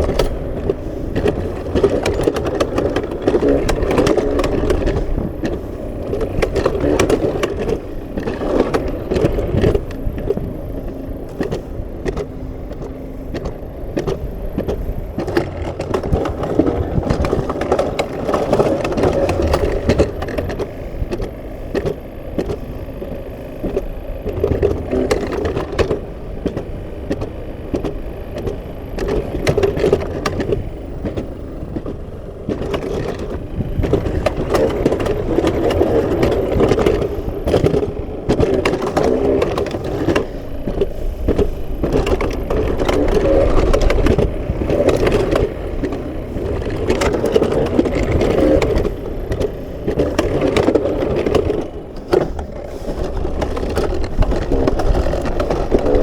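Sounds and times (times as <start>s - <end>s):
sled wheels rumbling on rails: 0.0s - 56.0s
track clicks and clacks: 0.0s - 56.0s.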